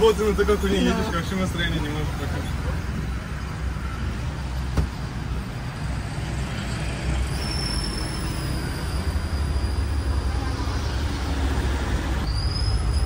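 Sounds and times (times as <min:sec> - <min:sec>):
engine and wind rumble: 0:00.0 - 0:13.0.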